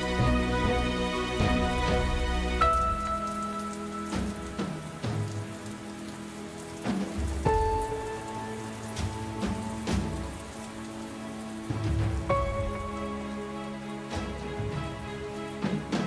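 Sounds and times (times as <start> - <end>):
soft slow melody: 0.0 - 16.0
steady rain falling: 0.0 - 16.0.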